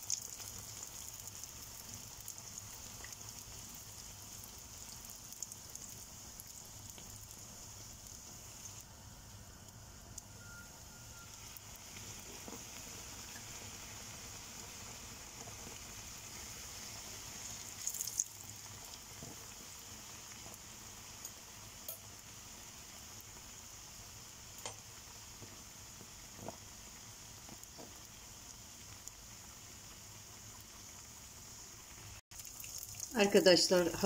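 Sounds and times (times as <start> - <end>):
dough sizzling in oil: 0.0 - 34.0.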